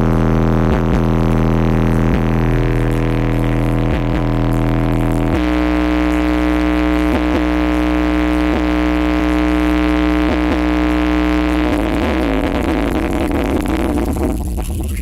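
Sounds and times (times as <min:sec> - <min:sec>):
loudspeaker buzzing drone with bass: 0:00.0 - 0:15.0.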